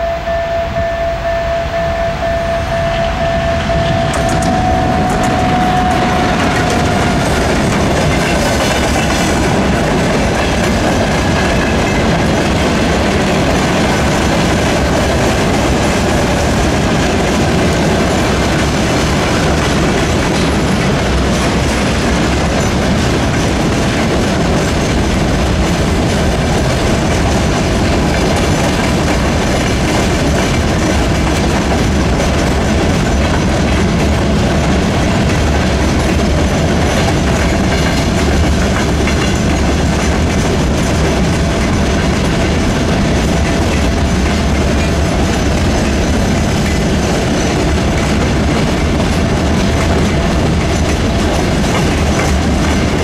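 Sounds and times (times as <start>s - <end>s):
freight wagons rolling on rails: 2.2s - 53.0s.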